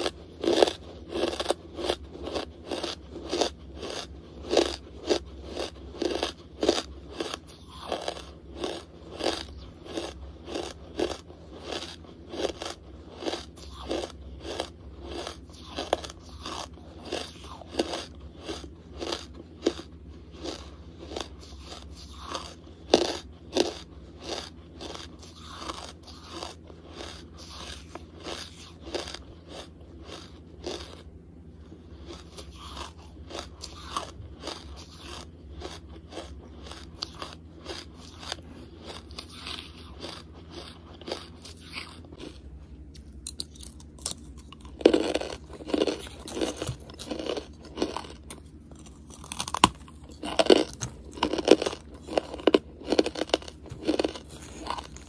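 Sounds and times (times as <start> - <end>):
crunching hard charcoal: 0.0 - 55.0.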